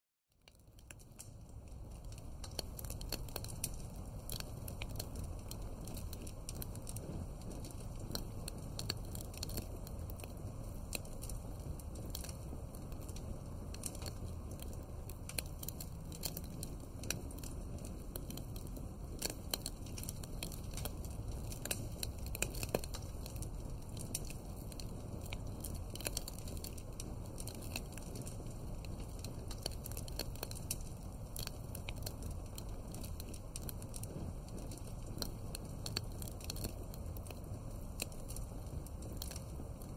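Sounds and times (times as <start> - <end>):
wood fire crackling and popping: 0.3 - 39.9.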